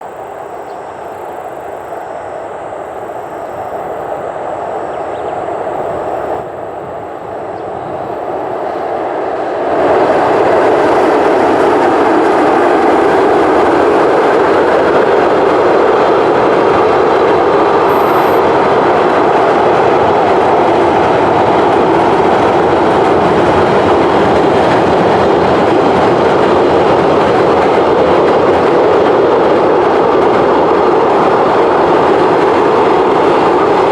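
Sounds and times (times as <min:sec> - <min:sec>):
freight train rumbling over bridge: 0:00.0 - 0:33.9.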